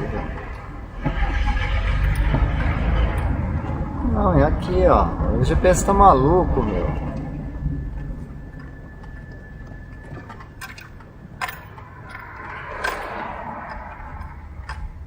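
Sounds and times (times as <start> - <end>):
car engine and road rumble: 0.0 - 15.0
sharp clicks and knocks: 0.0 - 15.0.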